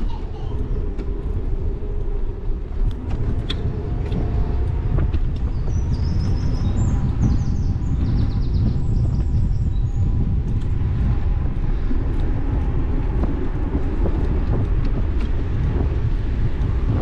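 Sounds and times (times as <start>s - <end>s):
bicycle tyres rolling on bricks: 0.0s - 17.0s
wind buffeting microphone: 0.0s - 17.0s.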